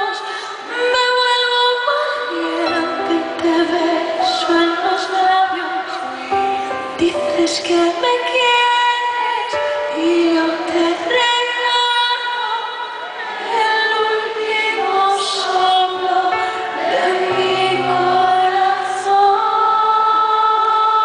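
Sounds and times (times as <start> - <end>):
woman singing a ballad: 0.0 - 21.0
keyboard piano accompaniment: 2.3 - 12.0, 13.2 - 21.0.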